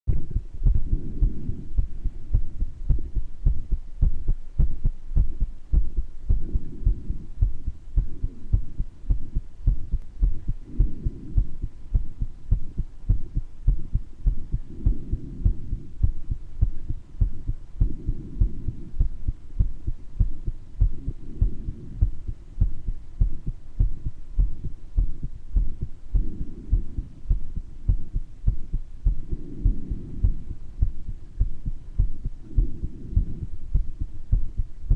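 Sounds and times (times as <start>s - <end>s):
heartbeat thuds: 0.1s - 34.9s
person breathing: 0.2s - 3.6s, 5.2s - 23.3s, 25.6s - 34.6s.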